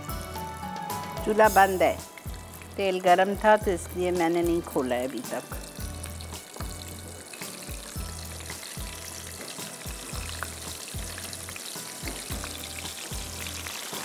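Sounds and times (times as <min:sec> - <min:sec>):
chicken frying in hot oil: 0:01.2 - 0:14.0.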